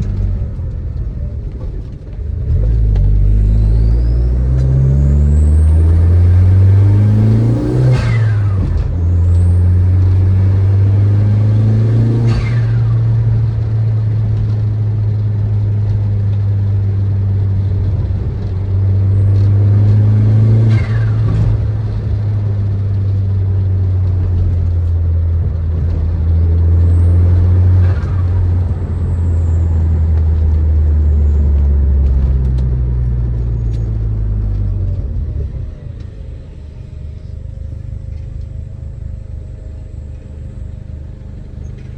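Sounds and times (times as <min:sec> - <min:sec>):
car exhaust drone while driving: 0:00.0 - 0:41.9.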